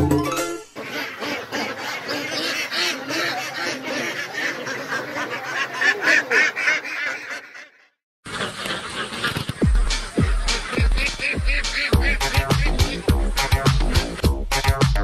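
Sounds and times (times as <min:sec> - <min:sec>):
ducks quacking: 0:00.7 - 0:14.2.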